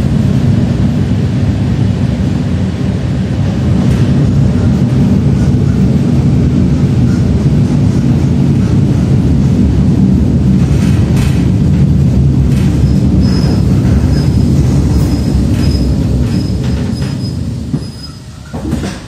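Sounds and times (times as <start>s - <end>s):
wheels rumbling on rails: 0.0s - 19.0s.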